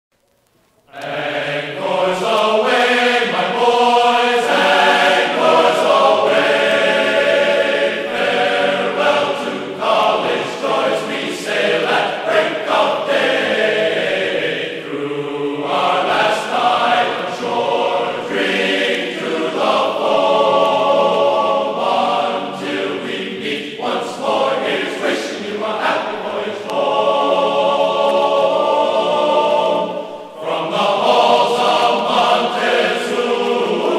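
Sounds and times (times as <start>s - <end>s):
choir singing held chords: 0.9s - 33.9s.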